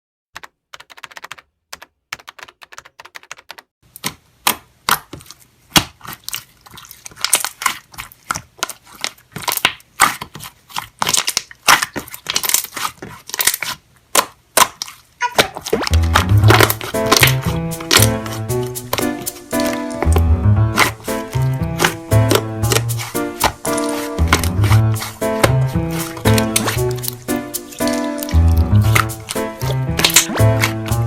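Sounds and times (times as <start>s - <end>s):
slime clicking and crackling: 3.9s - 31.0s.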